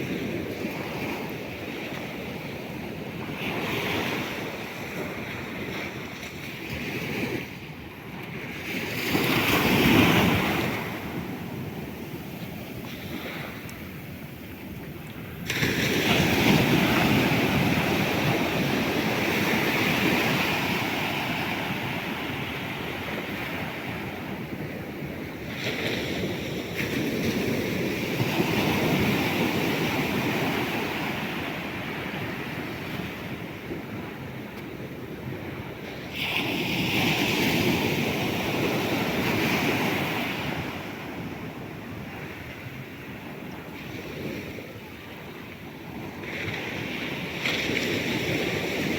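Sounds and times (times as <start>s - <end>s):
sea waves breaking on shore: 0.0s - 48.9s.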